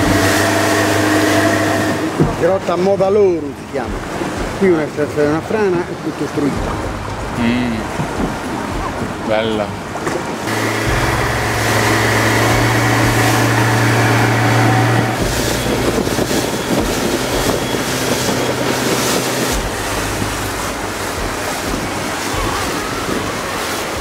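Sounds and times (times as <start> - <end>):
outboard motor running: 0.0 - 5.0, 6.5 - 24.0
rushing water: 0.0 - 24.0
wind buffeting microphone: 0.0 - 24.0.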